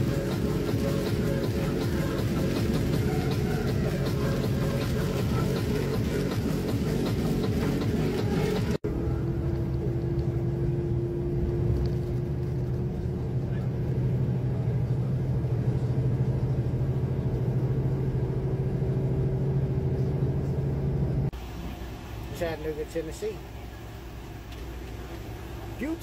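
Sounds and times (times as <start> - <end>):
road noise: 0.0 - 26.0
truck diesel engine droning: 0.0 - 26.0.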